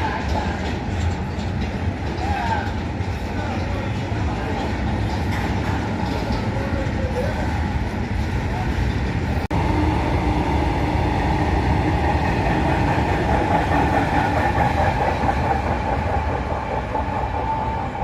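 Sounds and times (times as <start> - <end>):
train rolling on rails: 0.0 - 18.0.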